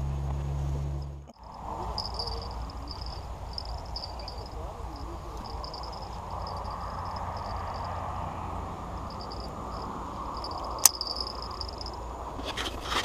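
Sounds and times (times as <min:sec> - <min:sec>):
insects chirring: 0:01.3 - 0:12.9
steady background rush: 0:01.5 - 0:12.2.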